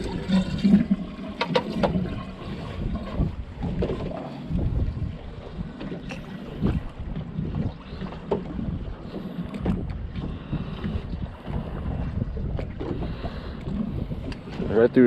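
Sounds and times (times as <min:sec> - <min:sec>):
water slapping boat hull: 0:00.0 - 0:15.0
wind buffeting microphone: 0:00.0 - 0:15.0.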